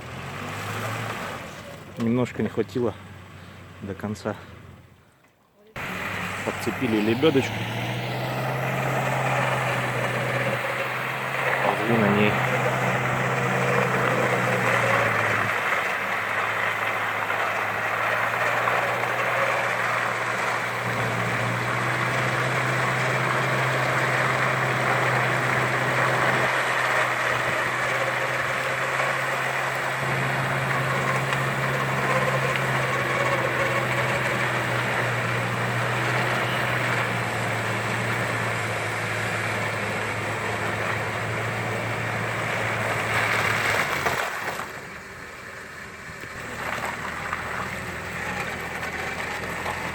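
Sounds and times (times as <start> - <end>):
vehicle engine idling: 1.5 - 49.9.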